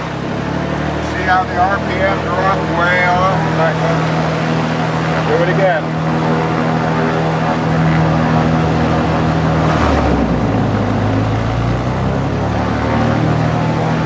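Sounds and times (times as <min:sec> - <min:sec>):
propeller aircraft engine running: 0:00.0 - 0:14.0.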